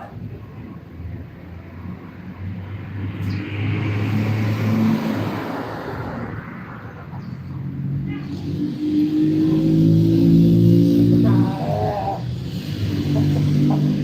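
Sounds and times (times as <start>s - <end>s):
vehicle passing: 0.0s - 14.0s.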